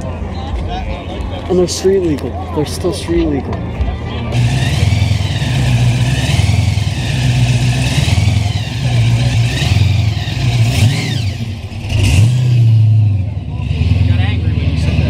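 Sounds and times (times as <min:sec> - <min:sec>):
car engine lumpy exhaust: 0:00.0 - 0:15.0.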